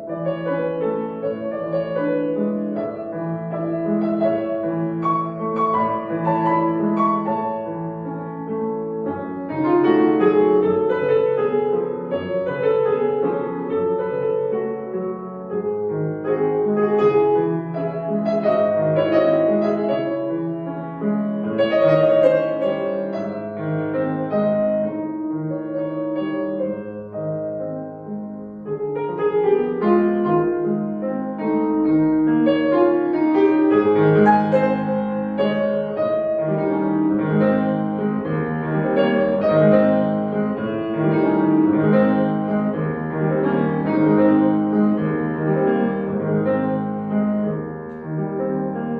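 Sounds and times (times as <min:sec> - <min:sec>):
solo piano classical piece: 0:00.0 - 0:48.9.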